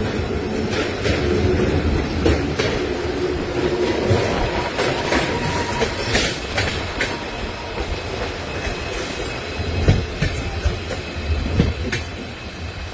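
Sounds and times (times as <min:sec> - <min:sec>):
wheels clacking over rail joints: 0:00.0 - 0:12.2
train rumbling: 0:00.0 - 0:12.9.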